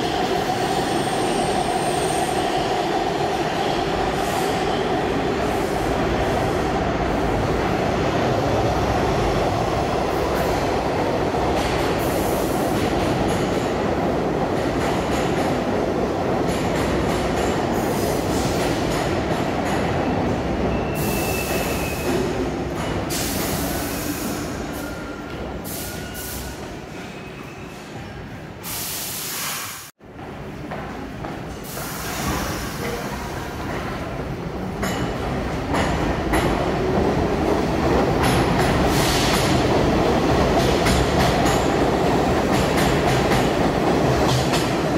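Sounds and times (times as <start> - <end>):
subway train wheels rumbling: 0.0 - 44.9.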